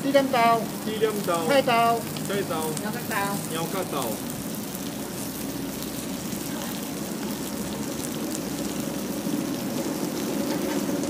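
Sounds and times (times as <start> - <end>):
food sizzling on griddle: 0.0 - 11.0.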